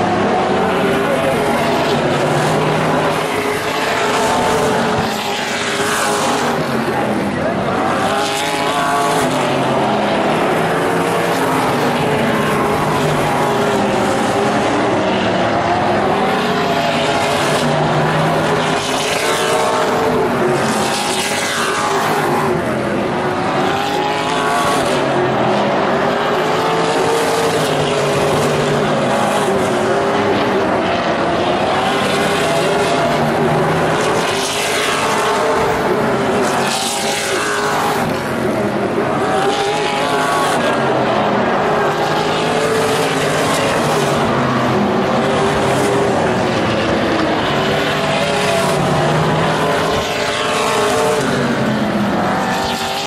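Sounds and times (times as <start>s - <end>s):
race car engines: 0.0s - 53.0s
race cars passing by: 0.0s - 53.0s.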